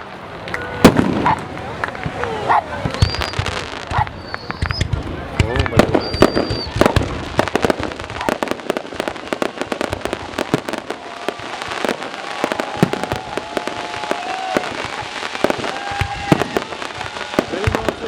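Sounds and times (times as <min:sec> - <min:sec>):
fireworks crackling and banging: 0:00.0 - 0:18.0
fireworks whistling: 0:00.0 - 0:18.0.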